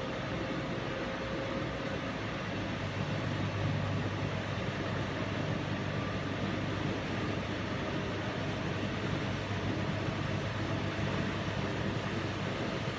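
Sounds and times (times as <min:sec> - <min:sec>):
washing machine hum and rumble: 0:00.0 - 0:12.9.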